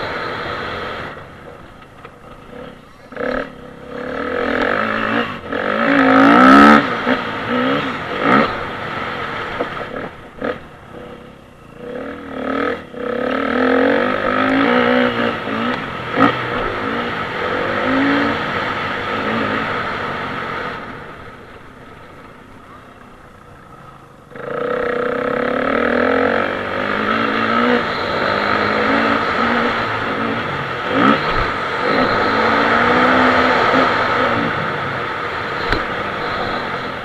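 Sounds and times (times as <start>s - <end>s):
dirt bike engine revving: 2.4s - 20.9s, 24.3s - 37.0s.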